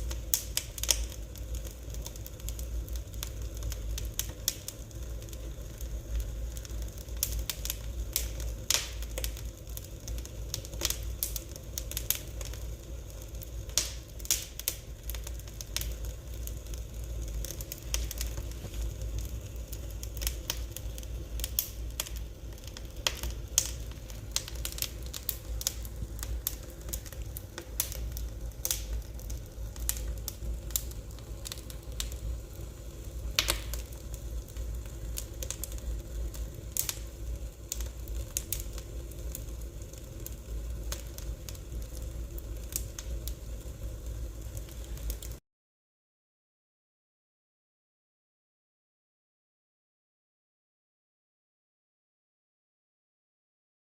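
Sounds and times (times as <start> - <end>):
fire crackling: 0.0 - 45.4.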